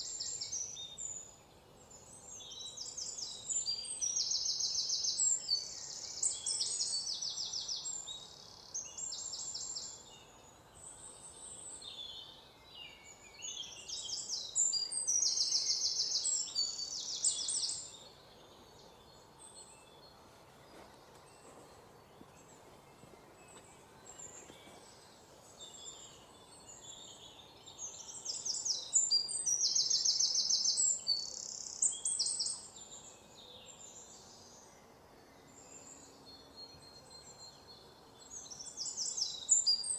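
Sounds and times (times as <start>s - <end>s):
faint outdoor background: 0.0s - 39.9s.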